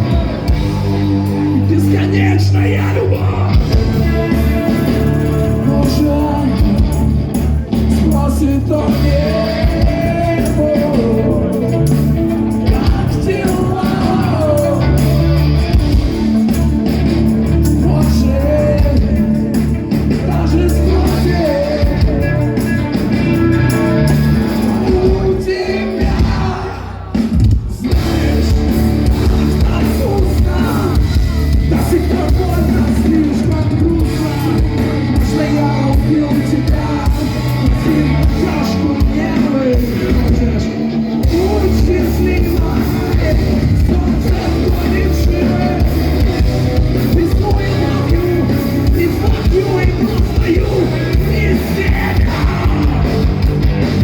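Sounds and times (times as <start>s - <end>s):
person singing: 0.0s - 16.6s, 17.6s - 27.2s, 27.9s - 53.6s
rock band playing live: 0.0s - 54.0s.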